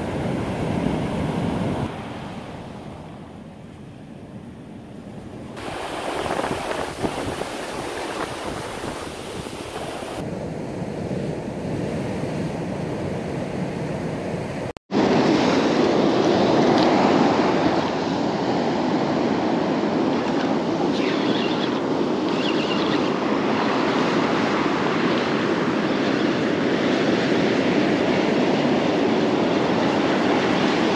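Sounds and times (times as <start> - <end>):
ocean surf washing onto beach: 0.0 - 30.9
wind on microphone: 0.0 - 30.9.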